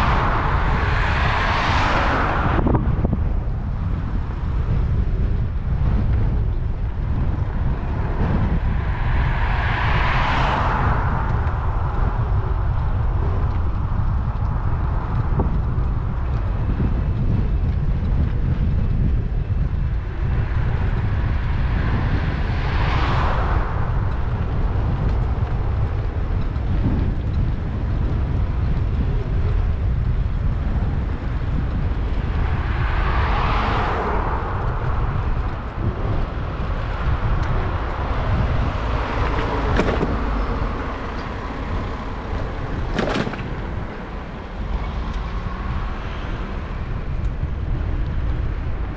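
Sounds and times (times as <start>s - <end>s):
road vehicles passing: 0.0s - 48.9s
wind buffeting microphone: 0.0s - 48.9s.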